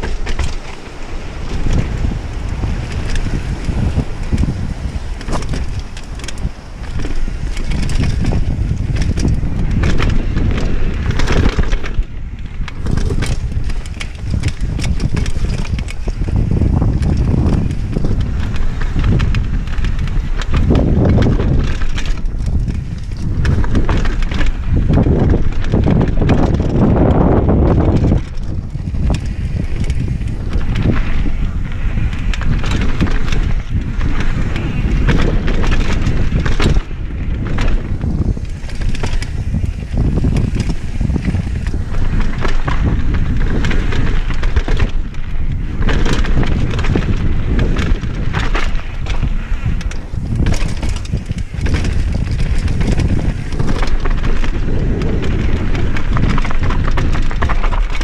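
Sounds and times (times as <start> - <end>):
bike rattling and knocking: 0.0 - 58.0
bike tyres crunching on dirt: 0.0 - 58.0
wind buffeting microphone: 0.0 - 58.0.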